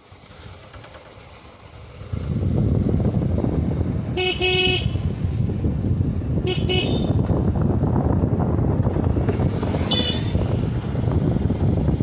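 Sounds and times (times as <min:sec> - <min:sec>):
moving vehicle rumble: 0:00.0 - 0:12.0
wind: 0:00.0 - 0:12.0.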